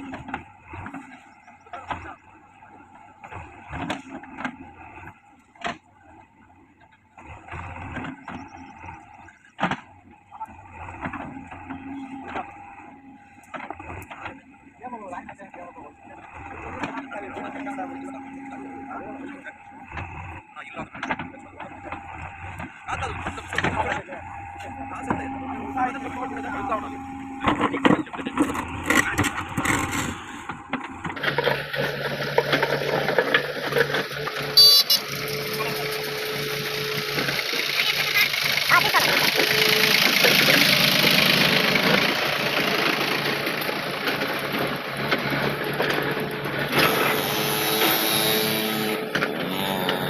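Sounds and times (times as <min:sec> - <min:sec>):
diesel engine rumbling: 0:00.0 - 0:50.0.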